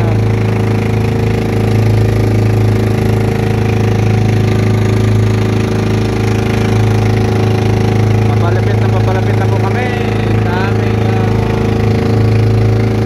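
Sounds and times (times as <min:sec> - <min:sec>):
small boat engine droning: 0:00.0 - 0:13.0.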